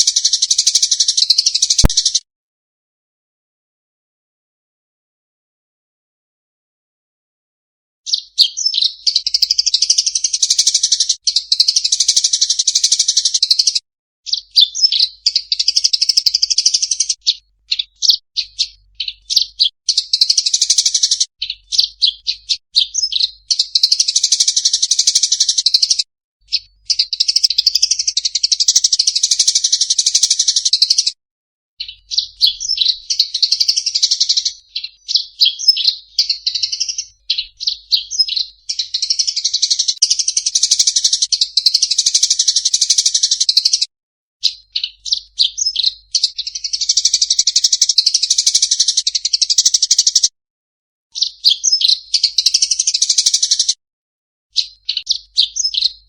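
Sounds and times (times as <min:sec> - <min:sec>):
songbird twittering: 0:00.0 - 0:02.2, 0:08.1 - 0:31.2, 0:31.8 - 0:50.3, 0:51.2 - 0:53.7, 0:54.5 - 0:56.0.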